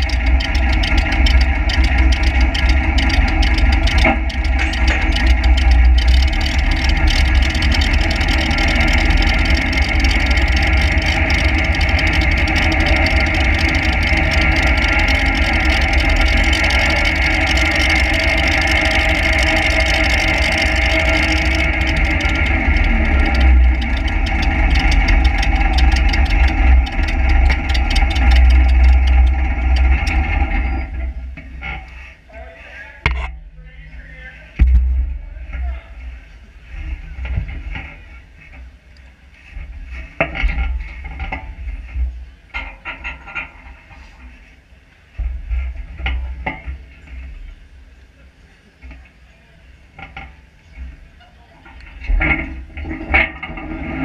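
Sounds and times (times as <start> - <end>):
tractor engine rumbling: 0.0 - 54.0.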